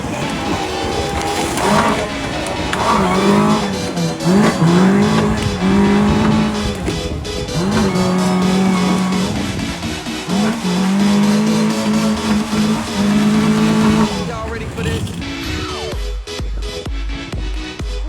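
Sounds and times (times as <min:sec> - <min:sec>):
car engine revving hard: 0:00.0 - 0:15.9
tyre noise: 0:00.0 - 0:18.0.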